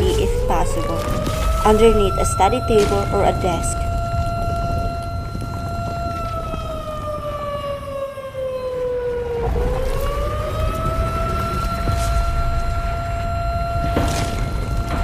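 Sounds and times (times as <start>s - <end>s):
low rumble: 0.0s - 7.5s, 9.4s - 15.0s
siren falling and rising: 0.0s - 15.0s.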